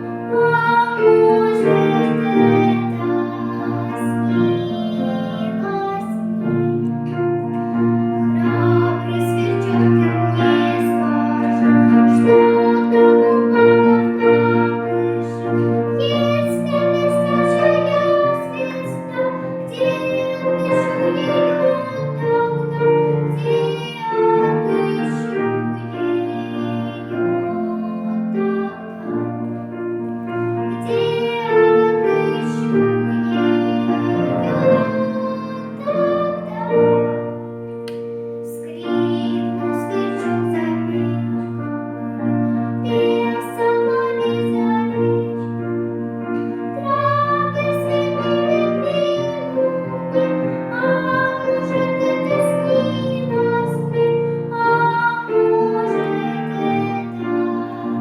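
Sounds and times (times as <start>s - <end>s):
child singing: 0.0s - 29.5s, 30.3s - 37.6s, 38.4s - 58.0s
keyboard accompaniment: 0.0s - 58.0s.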